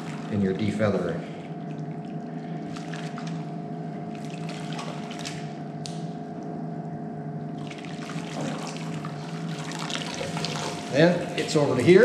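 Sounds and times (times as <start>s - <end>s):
water sloshing and splashing in pot: 0.0s - 6.6s, 7.5s - 12.0s
steady hum: 0.0s - 12.0s.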